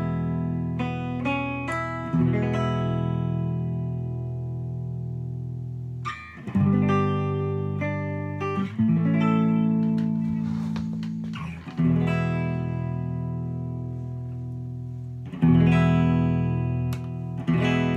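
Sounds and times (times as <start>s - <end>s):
electric guitar chords ringing: 0.0s - 10.3s, 11.1s - 17.9s.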